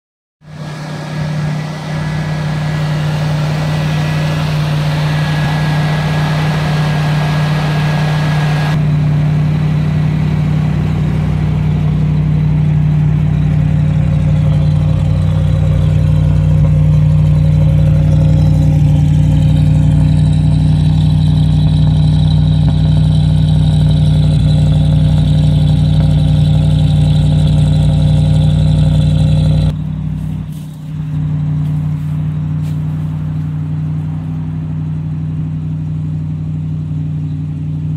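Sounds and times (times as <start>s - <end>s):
engine idling with low hum: 0.4s - 37.9s.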